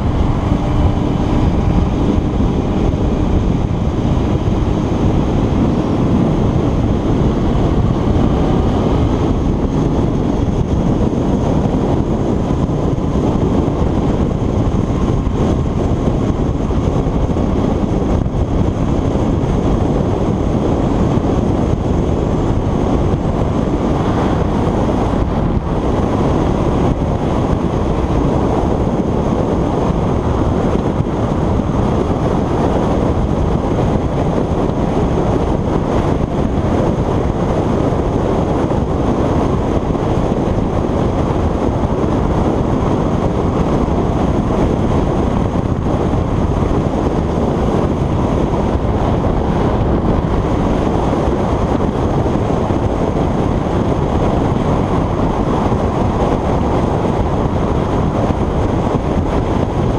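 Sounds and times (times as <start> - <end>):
motorcycle running: 0.0 - 59.9
road noise: 0.0 - 59.9
wind rush over microphone: 0.0 - 59.9.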